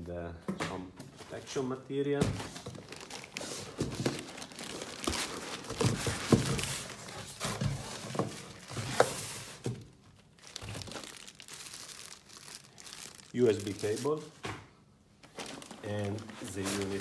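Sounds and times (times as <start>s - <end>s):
plastic and foam rustling: 1.0s - 14.5s, 15.2s - 17.0s.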